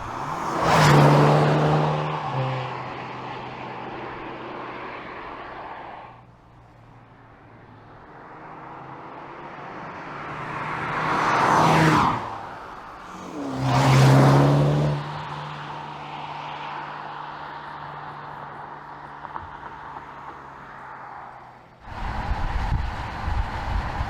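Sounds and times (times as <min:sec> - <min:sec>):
car engine and exhaust: 0:00.0 - 0:24.0.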